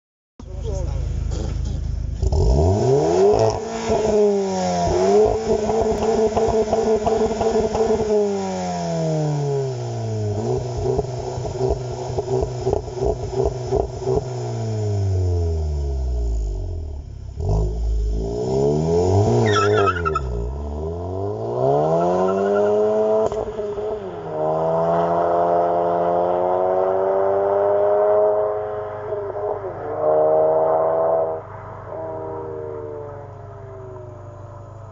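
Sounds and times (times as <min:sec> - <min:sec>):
car engine accelerating hard: 0:00.6 - 0:34.9.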